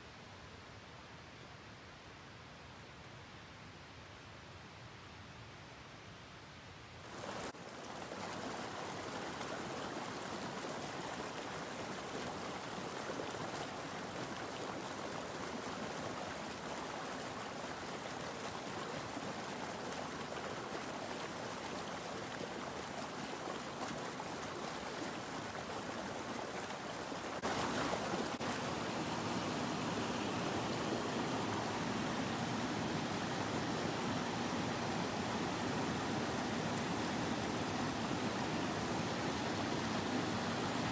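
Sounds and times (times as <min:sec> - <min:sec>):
mountain stream flowing: 0:07.0 - 0:40.9.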